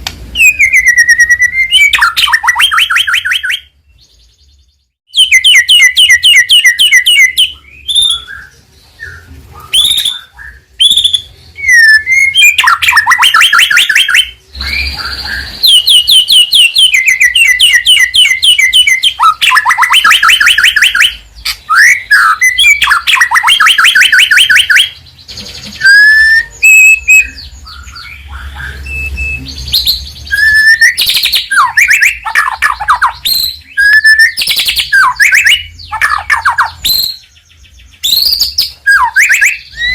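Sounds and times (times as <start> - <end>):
bird singing trills and whistles: 0.4 - 39.9.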